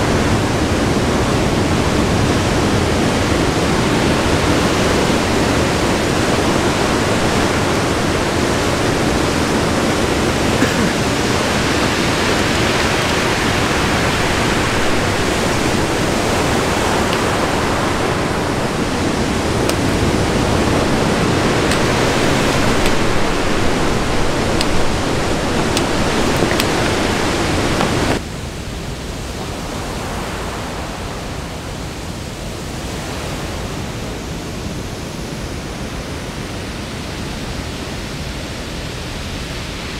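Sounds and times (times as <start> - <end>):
waterfall rushing: 0.0 - 34.4
ocean surf: 0.0 - 39.9.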